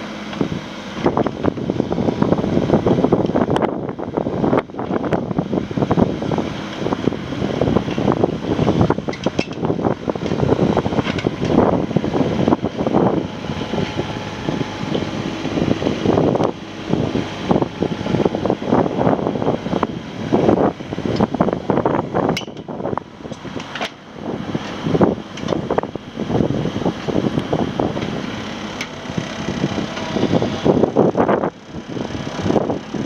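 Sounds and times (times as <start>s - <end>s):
excavator diesel engine running: 0.0s - 33.0s
wind buffeting microphone: 0.0s - 33.0s.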